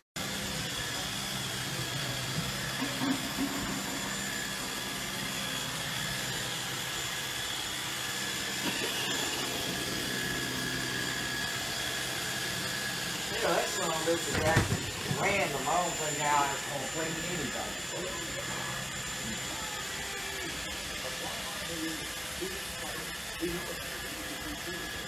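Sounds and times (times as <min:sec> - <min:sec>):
robot vacuum motor humming: 0:00.2 - 0:25.0.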